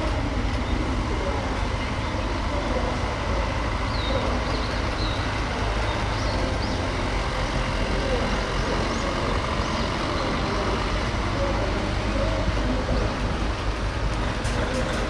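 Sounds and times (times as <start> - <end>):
diesel trucks driving past: 0.0 - 15.0.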